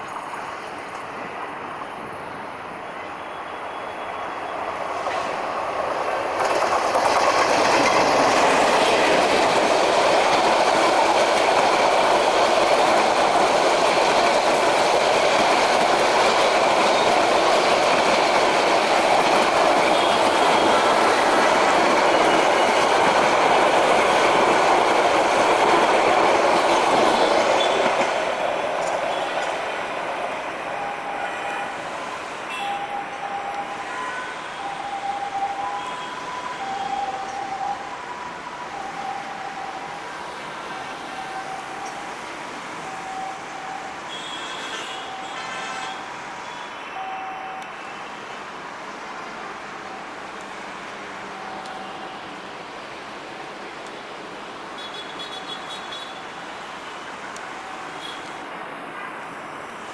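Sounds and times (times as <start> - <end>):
diesel locomotive passing: 0.0 - 54.8
train coaches rolling past: 0.0 - 59.9.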